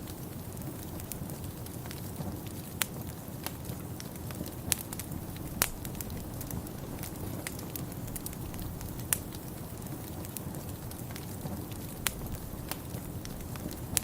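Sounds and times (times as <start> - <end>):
wood fire crackling: 0.0 - 14.0
sharp pops of fire: 0.1 - 14.0.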